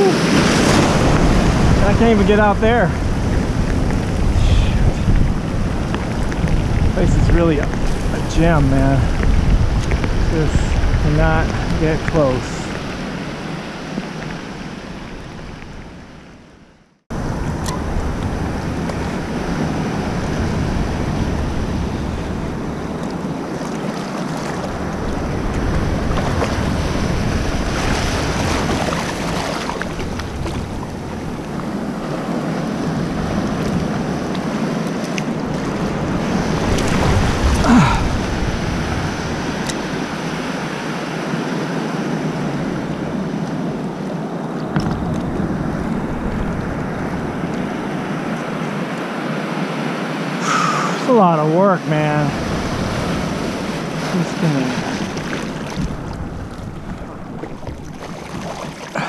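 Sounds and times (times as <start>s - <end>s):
wind buffeting microphone: 0.0s - 51.1s, 52.0s - 59.0s
ocean water sloshing: 0.0s - 59.0s.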